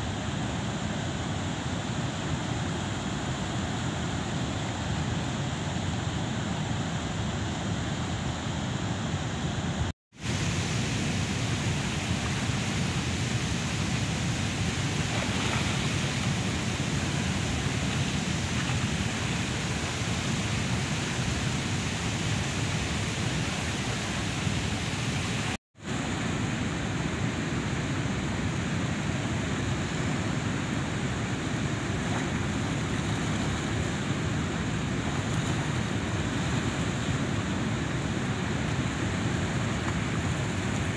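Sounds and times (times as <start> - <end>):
river water rushing over weir: 0.0 - 40.9.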